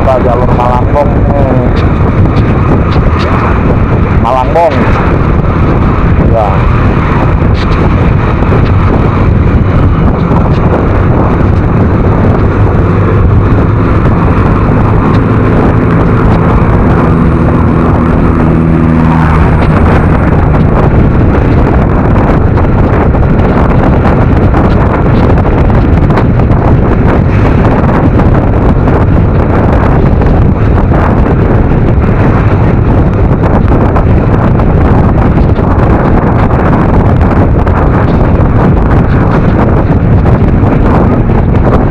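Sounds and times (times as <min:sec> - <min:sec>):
road noise: 0:00.0 - 0:41.9
wind rushing over microphone: 0:00.0 - 0:41.9
scooter engine hum: 0:00.4 - 0:41.9.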